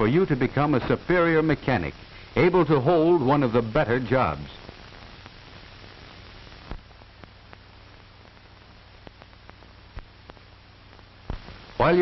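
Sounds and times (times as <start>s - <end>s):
film soundtrack hiss: 0.0s - 12.0s.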